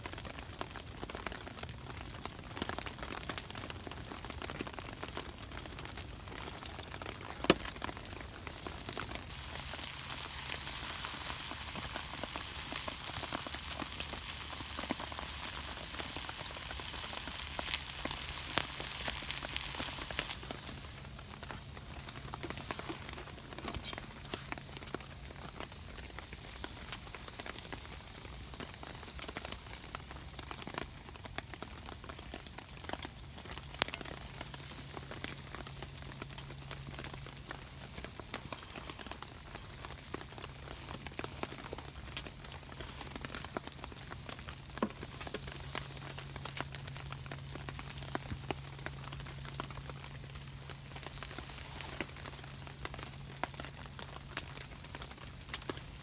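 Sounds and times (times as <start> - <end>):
crackles and pops: 0.0 - 56.0
food sizzling on a grill: 0.1 - 56.0.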